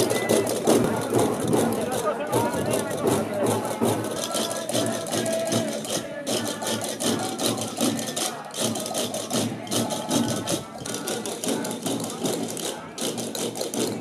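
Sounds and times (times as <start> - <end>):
voices singing: 0.0 - 14.0.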